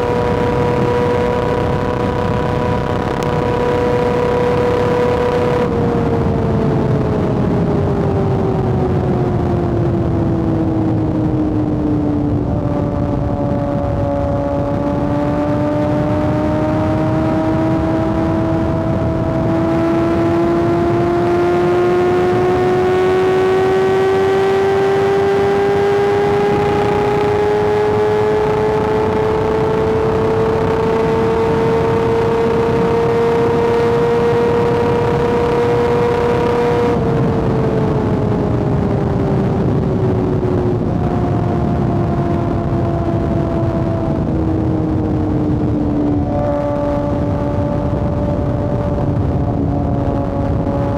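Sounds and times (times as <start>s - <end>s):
motorcycle engine at high revs: 0.0s - 50.9s
wind noise: 0.0s - 50.9s.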